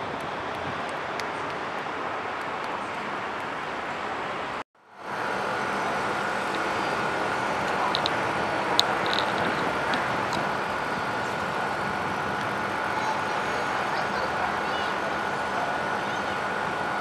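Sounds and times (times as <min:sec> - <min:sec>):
city traffic noise: 0:00.0 - 0:17.0.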